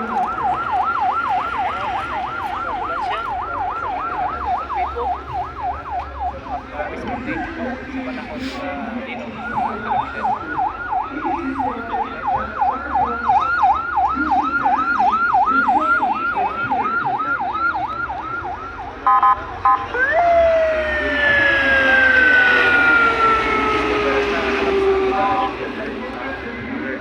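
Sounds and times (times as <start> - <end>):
emergency siren yelping: 0.0 - 7.2, 9.3 - 26.6.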